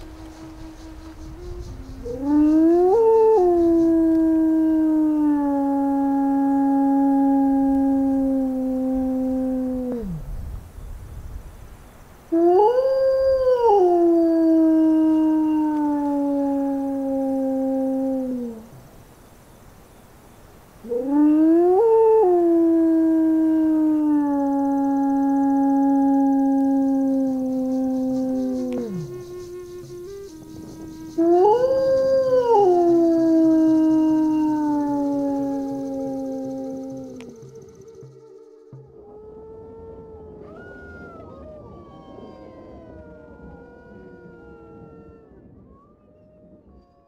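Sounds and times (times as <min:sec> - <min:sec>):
wolf howl through loudspeaker: 0:00.0 - 0:10.2, 0:12.4 - 0:18.7, 0:20.9 - 0:29.2, 0:29.8 - 0:47.0.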